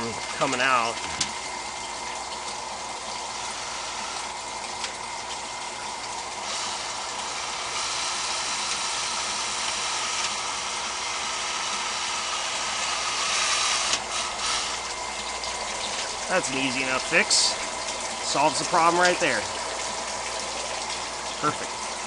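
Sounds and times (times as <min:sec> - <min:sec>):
water running and splashing: 0:00.0 - 0:22.0.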